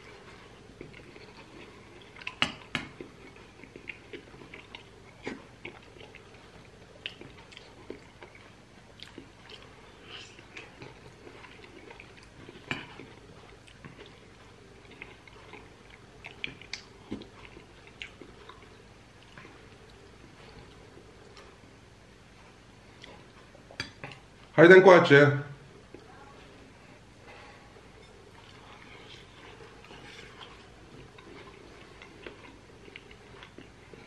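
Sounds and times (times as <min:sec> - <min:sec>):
man chewing food: 0:00.0 - 0:24.5, 0:25.7 - 0:34.0.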